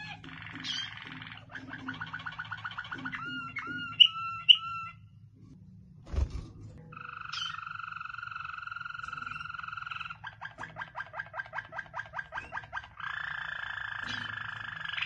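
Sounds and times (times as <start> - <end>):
canary singing: 0.0 - 5.3, 6.8 - 15.0.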